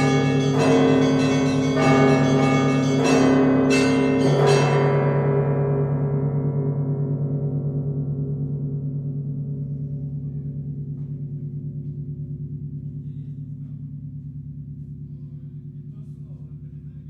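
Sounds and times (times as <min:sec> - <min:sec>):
large church bell ringing out: 0:00.0 - 0:15.9.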